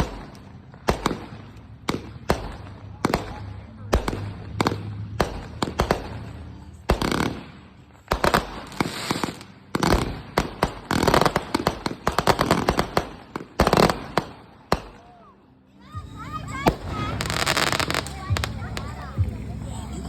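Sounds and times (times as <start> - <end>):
fireworks bangs: 0.0 - 15.1, 16.0 - 20.0
fireworks crackling: 0.0 - 20.0.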